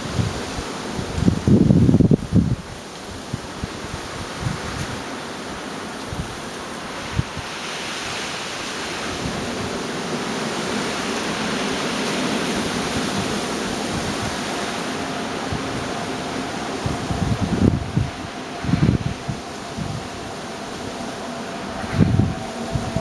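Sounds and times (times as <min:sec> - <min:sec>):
storm wind rushing: 0:00.0 - 0:23.0
wind buffeting microphone: 0:00.0 - 0:23.0.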